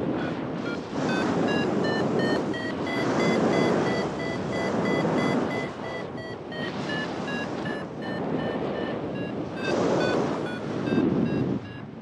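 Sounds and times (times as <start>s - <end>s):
wind rushing over microphone: 0.0s - 12.0s
variometer beeping: 0.6s - 11.9s.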